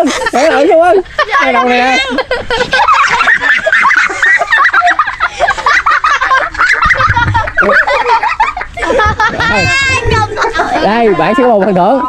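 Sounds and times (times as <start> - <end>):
children laughing and giggling: 0.0 - 12.0.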